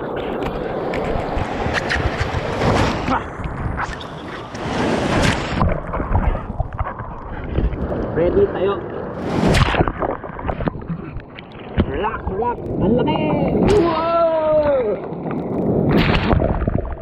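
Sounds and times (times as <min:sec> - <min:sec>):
surf rushing and splashing: 0:00.0 - 0:06.4, 0:07.0 - 0:17.0.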